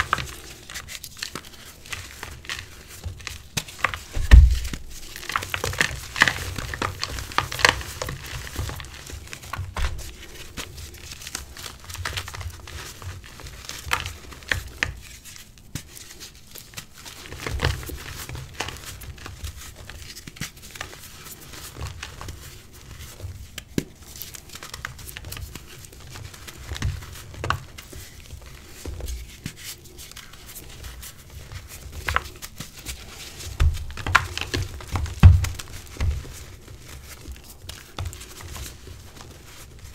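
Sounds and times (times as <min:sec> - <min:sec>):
chalk crunching and crumbling: 0:00.0 - 0:39.9.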